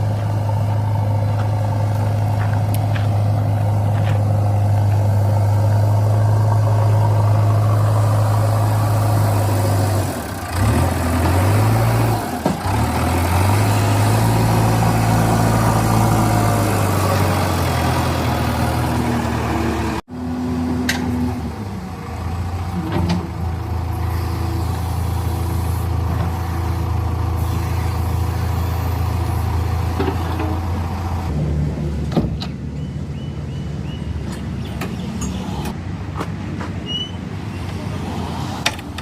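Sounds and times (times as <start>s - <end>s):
heavy diesel engine droning: 0.0s - 36.1s.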